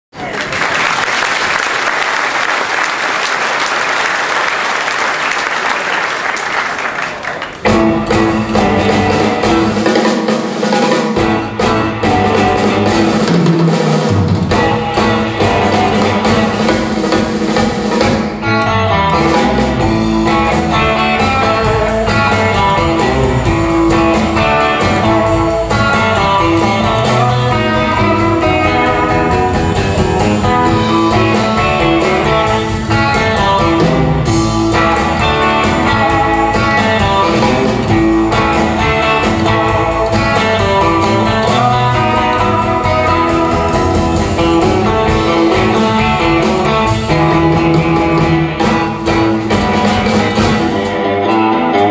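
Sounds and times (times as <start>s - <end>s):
electric guitars playing melody: 7.3s - 51.9s
drum kit beat: 7.5s - 51.9s.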